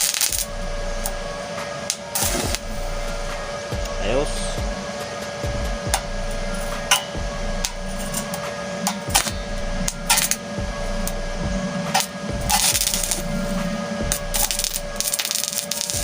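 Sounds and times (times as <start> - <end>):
welder machine hum: 0.0 - 16.0
welding arc crackling: 0.0 - 16.0.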